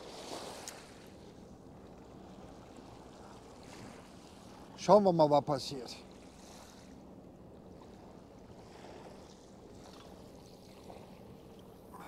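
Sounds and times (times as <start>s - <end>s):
low steady hum: 0.0s - 12.0s
river water lapping: 0.0s - 12.0s.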